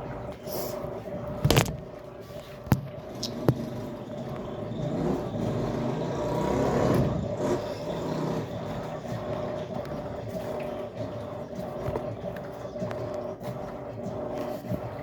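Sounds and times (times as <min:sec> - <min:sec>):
washing machine motor hum: 0:00.0 - 0:15.0
water and laundry churning: 0:00.0 - 0:15.0.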